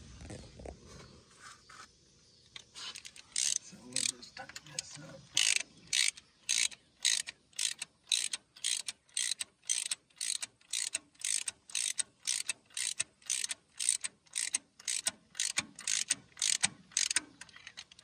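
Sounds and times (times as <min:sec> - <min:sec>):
socket ratchet clicking: 0:02.6 - 0:18.0.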